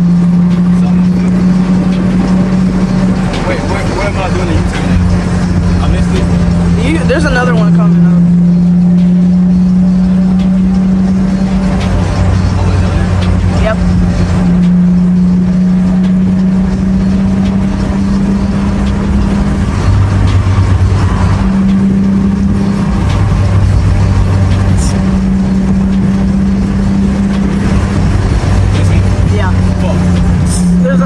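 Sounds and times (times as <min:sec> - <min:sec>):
car exhaust drone: 0:00.0 - 0:31.0.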